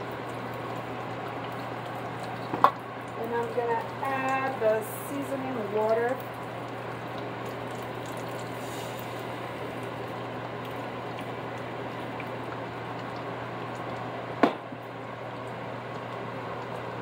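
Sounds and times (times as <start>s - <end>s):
water simmering in a frying pan: 0.0s - 17.0s.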